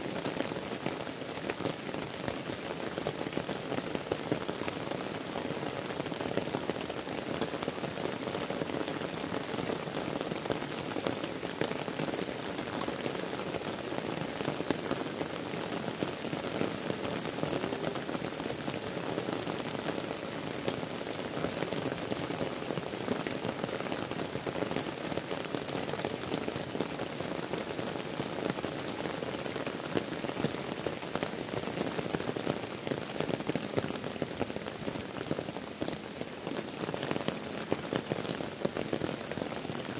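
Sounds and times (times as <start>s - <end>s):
heavy rain on lake and leaves: 0.0s - 39.9s.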